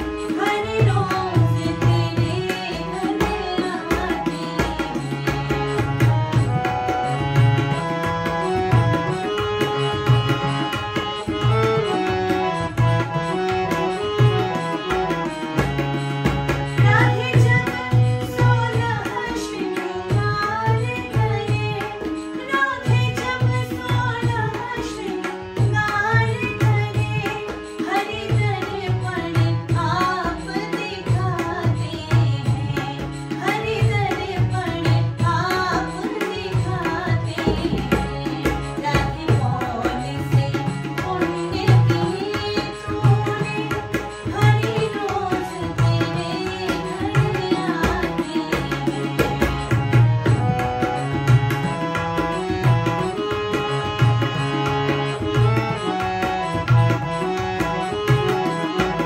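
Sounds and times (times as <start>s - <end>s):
harmonium: 0.0s - 59.0s
tabla drumming: 0.0s - 59.0s
woman singing: 0.0s - 59.0s.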